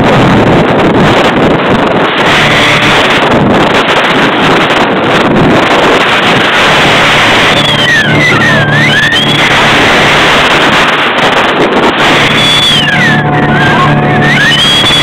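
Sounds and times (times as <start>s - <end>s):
wind buffeting microphone: 0.0s - 15.0s
boat motor running: 0.1s - 15.0s.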